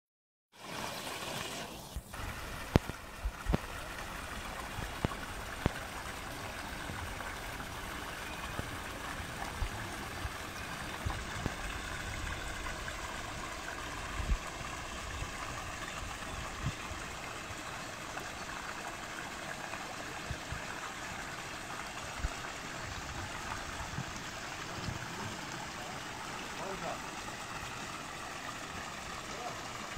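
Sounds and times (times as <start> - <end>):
flowing water: 0.5 - 29.9.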